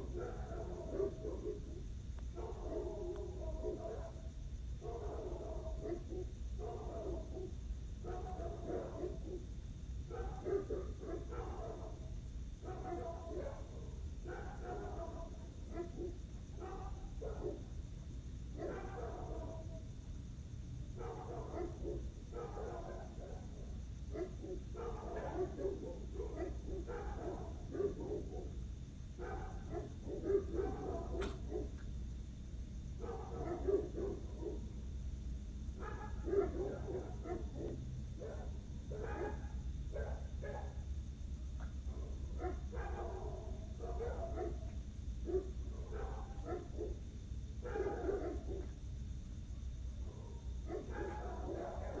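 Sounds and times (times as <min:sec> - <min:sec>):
dog barking: 0:00.0 - 0:09.5, 0:10.1 - 0:17.7, 0:18.6 - 0:19.8, 0:21.0 - 0:28.6, 0:29.2 - 0:31.8, 0:33.0 - 0:34.7, 0:35.8 - 0:40.8, 0:41.9 - 0:48.8, 0:50.1 - 0:52.0
steady low hum: 0:00.0 - 0:52.0.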